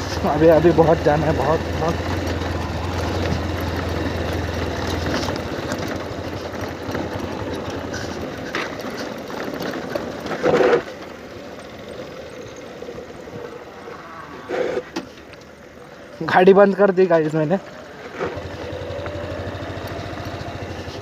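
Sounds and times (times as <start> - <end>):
motorcycle engine rattling: 0.0 - 13.9, 15.0 - 21.0.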